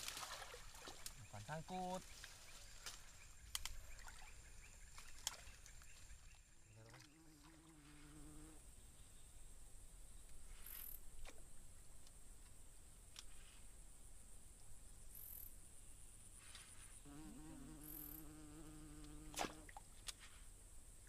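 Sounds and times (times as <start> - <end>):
insect chirps: 0.0 - 21.0
insects droning: 0.0 - 21.0.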